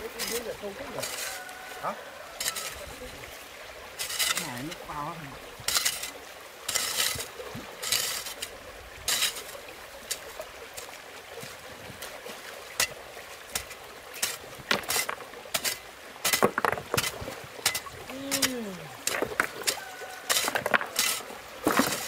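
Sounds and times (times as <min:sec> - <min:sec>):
shallow stream flowing: 0:00.0 - 0:22.0
water splashing: 0:00.0 - 0:22.0.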